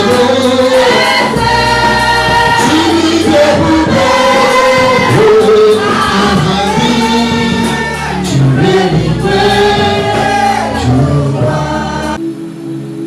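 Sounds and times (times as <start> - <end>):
gospel choir with band: 0.0 - 12.7.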